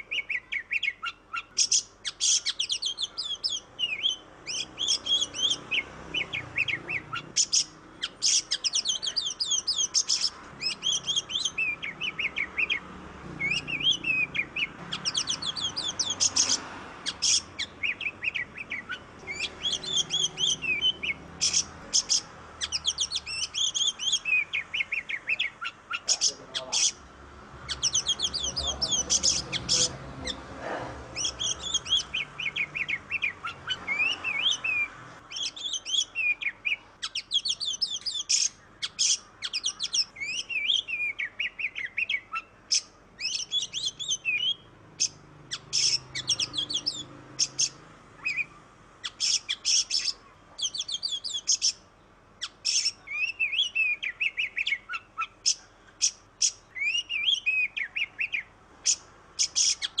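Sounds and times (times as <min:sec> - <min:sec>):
bird singing whistled phrases: 0:00.0 - 0:12.8, 0:13.4 - 0:26.9, 0:27.7 - 0:29.9, 0:31.2 - 0:51.8, 0:52.4 - 1:00.0.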